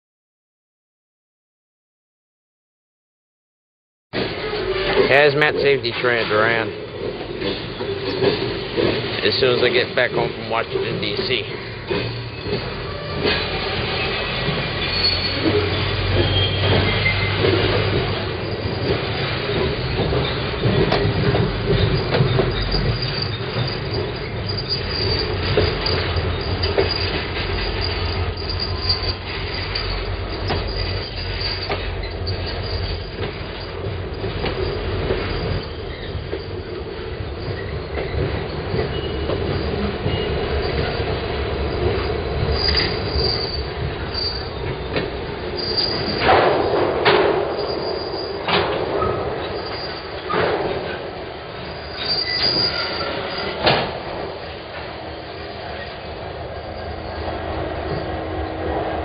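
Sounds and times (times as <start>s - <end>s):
wheels clicking over rail joints: 4.2s - 58.6s
steel wheels rumbling on rail: 4.2s - 59.0s
faint high wheel squeal: 7.4s - 59.0s.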